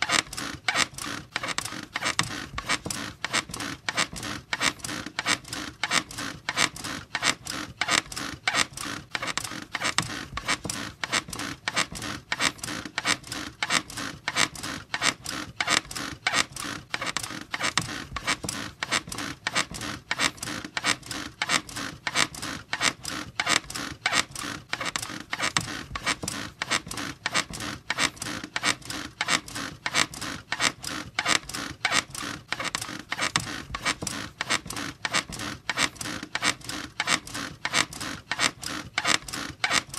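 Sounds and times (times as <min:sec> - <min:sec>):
bed squeaking rhythmically: 0:00.0 - 0:39.9.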